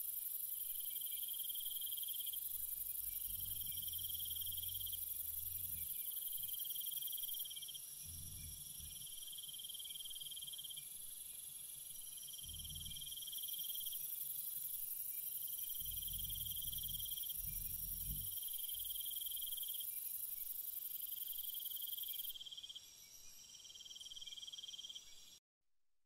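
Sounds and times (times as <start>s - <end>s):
constant high hiss: 0.0s - 25.4s
insects trilling: 0.0s - 25.4s.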